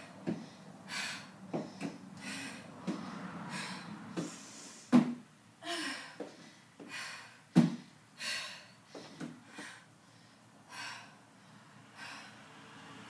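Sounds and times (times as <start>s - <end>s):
woman breathing hard: 0.0s - 5.0s, 5.6s - 12.6s.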